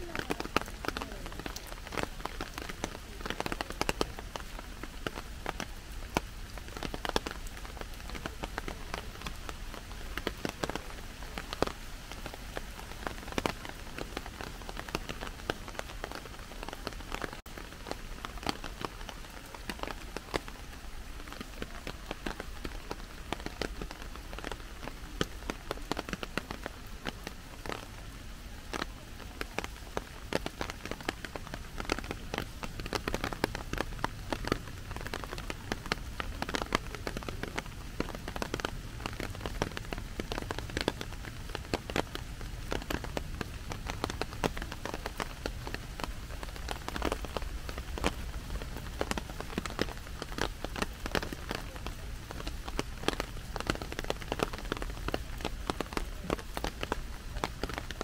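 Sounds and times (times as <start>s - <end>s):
heavy rain on plastic umbrella: 0.0s - 58.0s.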